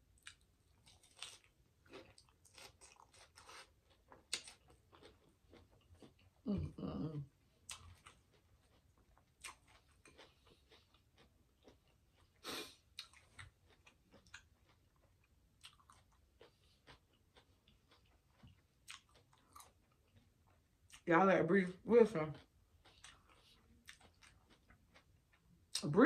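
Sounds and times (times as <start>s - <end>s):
chewing salad: 0.1s - 26.0s.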